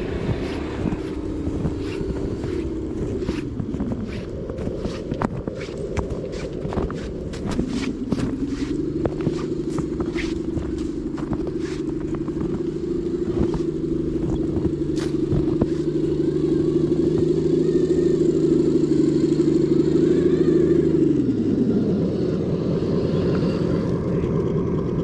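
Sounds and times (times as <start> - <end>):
wheels clicking and clattering: 0.0 - 21.3.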